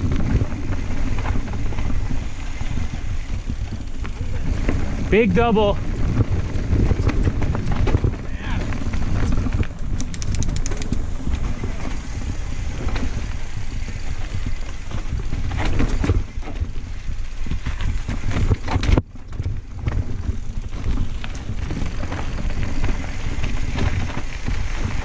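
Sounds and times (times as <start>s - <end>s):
mountain bike rattling over rocks: 0.0s - 25.0s
wind buffeting microphone: 0.0s - 25.0s.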